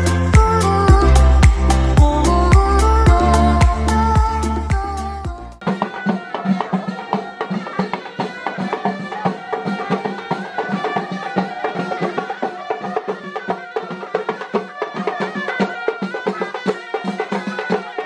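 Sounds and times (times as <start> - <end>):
reed pipes wavering melody: 0.0 - 18.0
steady drum beat: 0.0 - 18.0.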